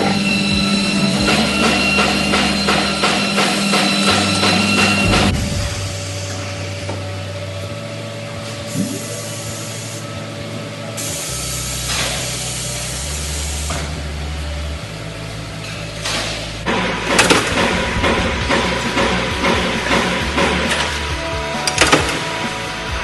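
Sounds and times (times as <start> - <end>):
factory machinery humming: 0.0 - 23.0.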